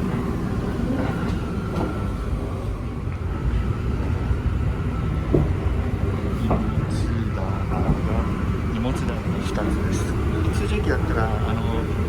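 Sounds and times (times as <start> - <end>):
train wheels rumbling on track: 0.0 - 12.0
train whine: 0.0 - 12.0.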